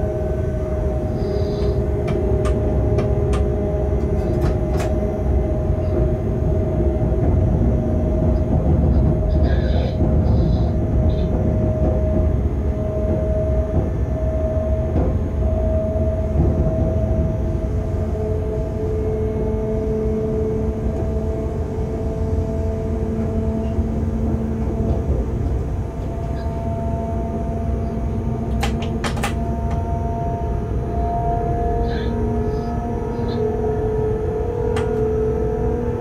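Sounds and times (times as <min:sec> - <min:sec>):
humming tone: 0:00.0 - 0:36.0
train low rumble: 0:00.0 - 0:36.0.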